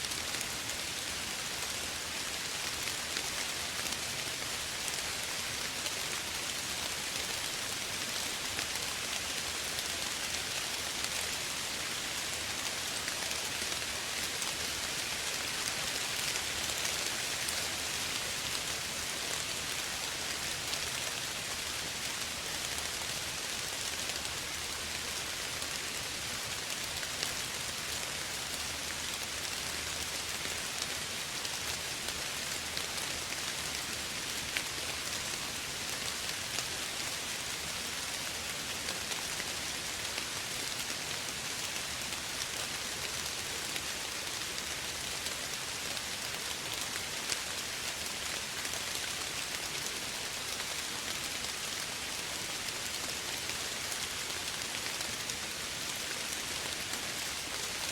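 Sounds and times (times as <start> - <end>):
soft rain hiss: 0.0 - 57.9.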